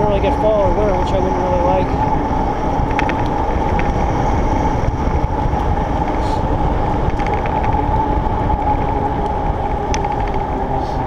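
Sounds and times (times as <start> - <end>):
bike tyre hum on pavement: 0.0 - 11.0
steady whine: 0.0 - 11.0
wind noise on microphone: 0.0 - 11.0.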